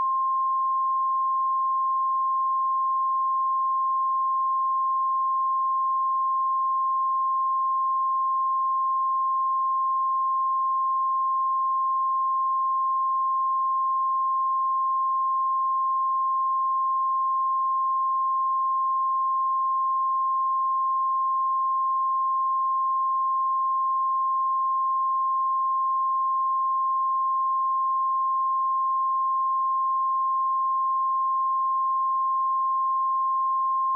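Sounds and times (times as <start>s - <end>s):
sine wave test tone: 0.0s - 33.9s.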